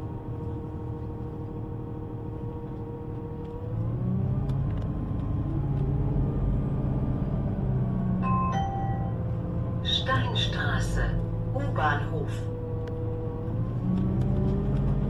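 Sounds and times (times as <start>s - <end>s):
bus drivetrain running: 0.0s - 15.0s.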